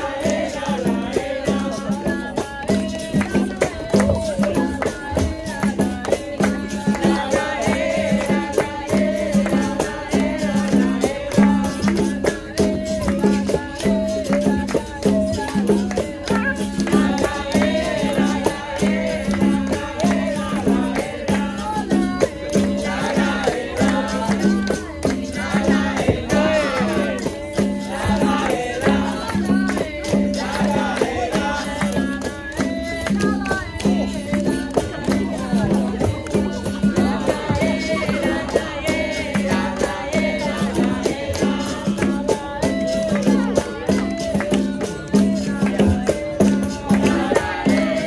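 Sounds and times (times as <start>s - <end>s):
berimbau and percussion beat: 0.0s - 48.0s
group singing: 0.0s - 48.0s.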